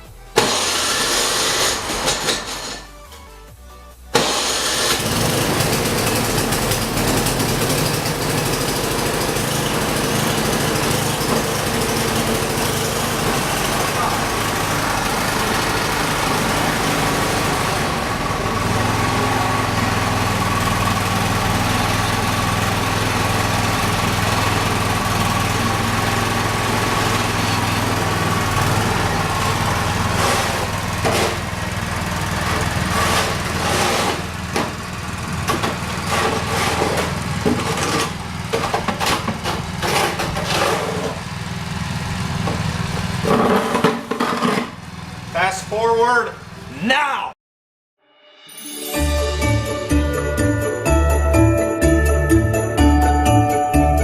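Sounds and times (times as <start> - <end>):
snowblower engine running: 0.3 - 2.9, 4.2 - 46.7, 49.0 - 54.0.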